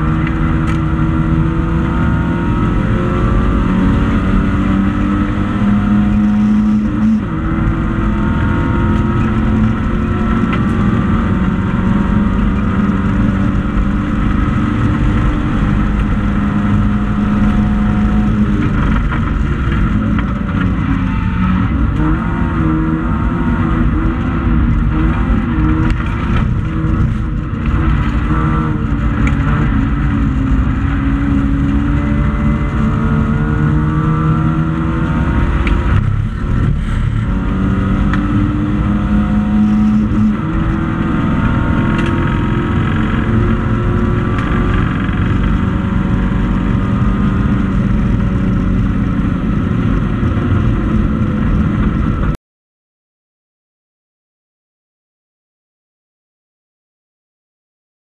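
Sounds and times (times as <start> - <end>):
car engine accelerating hard: 0.0 - 52.4.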